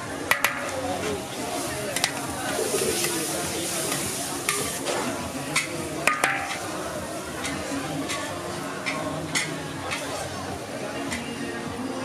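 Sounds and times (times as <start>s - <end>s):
utensils clanking against wok: 0.0s - 10.4s
noodles sizzling in wok: 0.0s - 11.6s.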